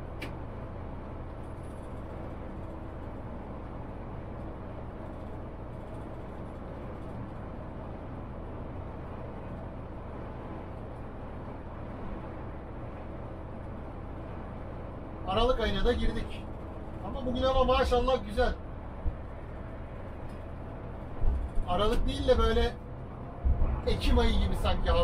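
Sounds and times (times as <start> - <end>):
coach engine and road rumble: 0.0 - 25.0.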